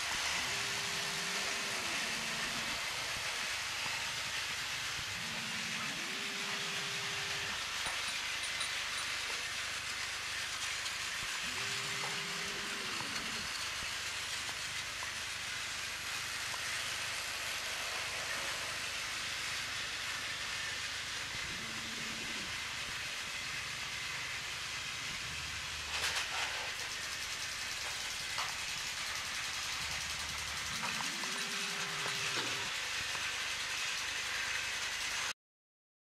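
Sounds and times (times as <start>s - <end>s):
toy train whirring: 0.0s - 35.4s.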